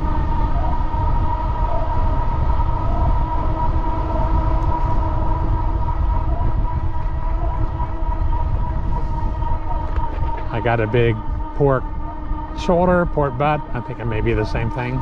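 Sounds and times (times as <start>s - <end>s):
steady train whine: 0.0s - 15.0s
train rumbling: 0.0s - 15.0s.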